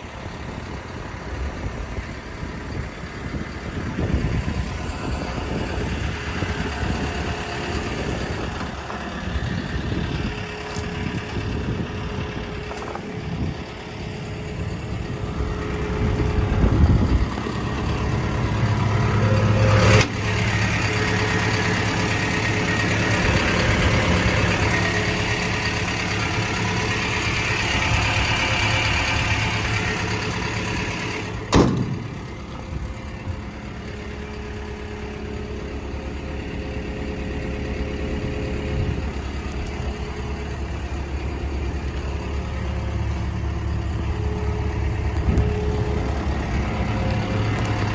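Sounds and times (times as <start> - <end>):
excavator diesel engine running: 0.0 - 47.9
high engine whine: 0.0 - 47.9.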